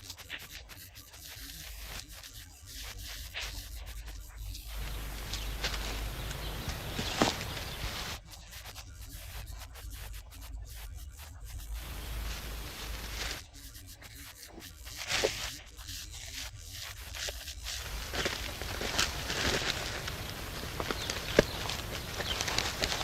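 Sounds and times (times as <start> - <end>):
rubbing and scraping strokes: 0.0 - 23.0.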